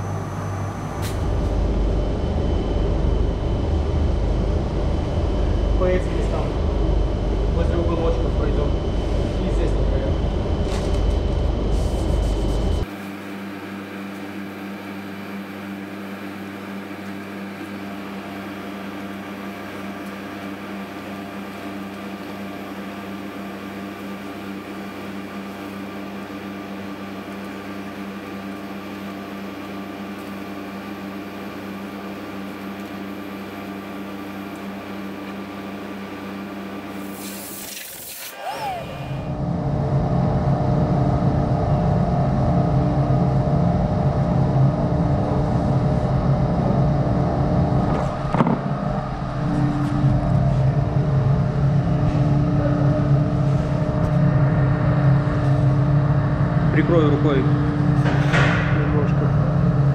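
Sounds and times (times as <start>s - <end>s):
steady machine hum: 0.0s - 37.3s, 38.3s - 59.9s.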